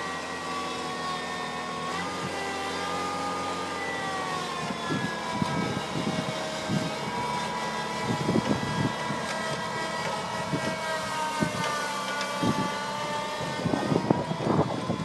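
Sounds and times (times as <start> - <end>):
tractor engine running under load: 0.0 - 15.0.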